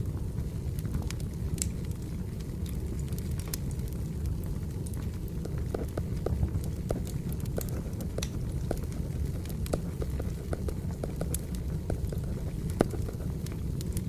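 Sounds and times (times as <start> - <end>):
fire burning with low rush: 0.0 - 14.0
logs crackling and popping: 0.0 - 14.0.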